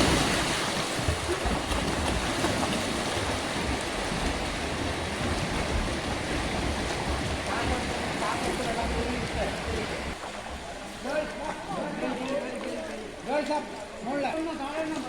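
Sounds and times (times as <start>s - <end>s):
swimmers splashing in water: 0.0s - 15.0s.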